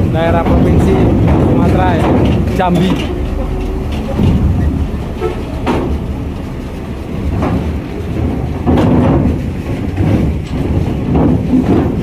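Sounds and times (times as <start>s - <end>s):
truck engine rumble: 0.0s - 12.0s
wheels clanking over ramp: 0.0s - 12.0s.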